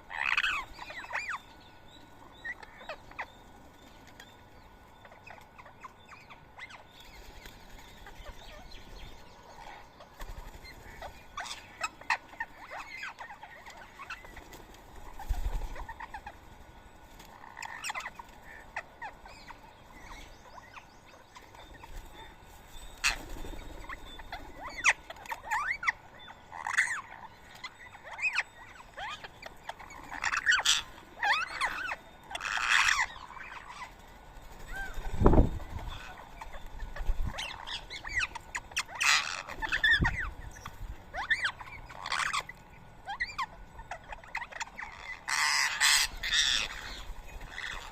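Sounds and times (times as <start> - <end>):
birds calling: 0.0 - 47.9.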